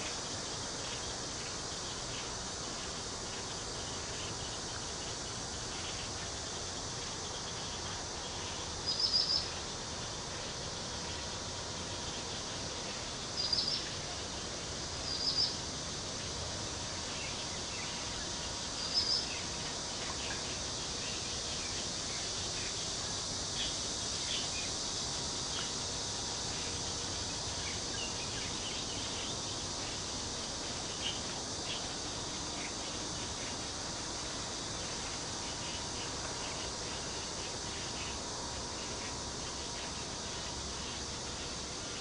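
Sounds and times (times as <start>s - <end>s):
cicadas buzzing: 0.0s - 42.0s.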